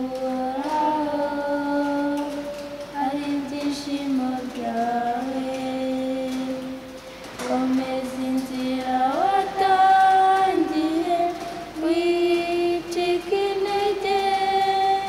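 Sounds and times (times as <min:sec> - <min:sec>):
young voices singing unaccompanied: 0:00.0 - 0:15.0.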